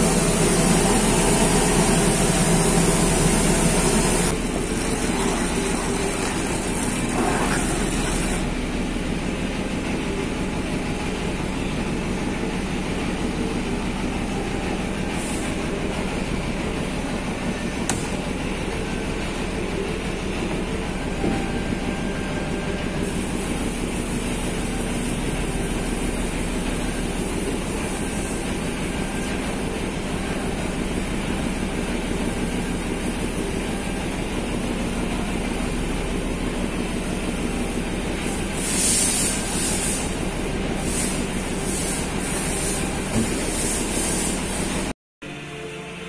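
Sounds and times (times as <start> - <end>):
machine churning hum: 0.0 - 46.0.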